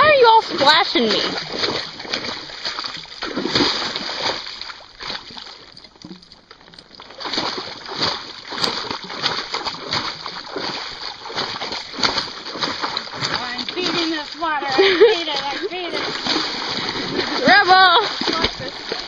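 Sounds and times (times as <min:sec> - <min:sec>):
hoof splashing in water: 0:00.0 - 0:19.0.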